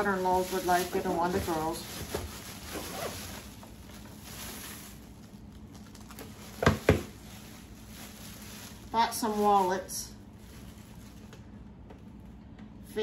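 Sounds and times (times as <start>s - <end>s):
plastic bag rustling: 0.0s - 12.4s.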